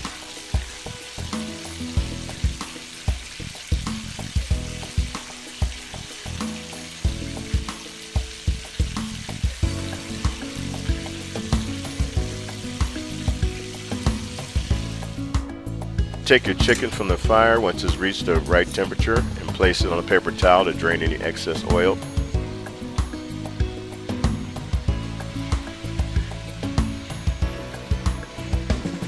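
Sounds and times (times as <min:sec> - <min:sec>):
background music with steady beat: 0:00.0 - 0:29.0
oil sizzling: 0:00.0 - 0:29.0.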